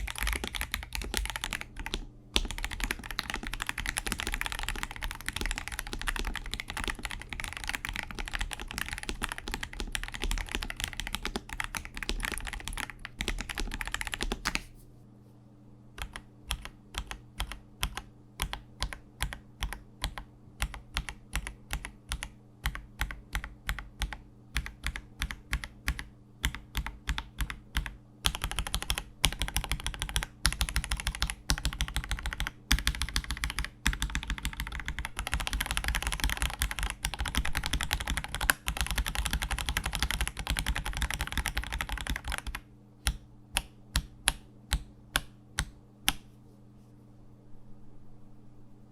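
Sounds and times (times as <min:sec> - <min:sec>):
mechanical keyboard typing: 0:00.0 - 0:14.6, 0:16.0 - 0:46.2.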